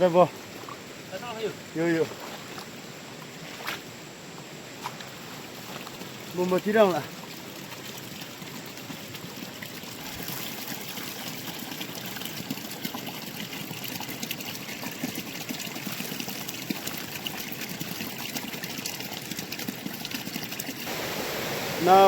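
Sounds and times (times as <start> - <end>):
river water trickling over stones: 0.0 - 22.0
small water splashes: 0.4 - 2.8, 4.8 - 21.9.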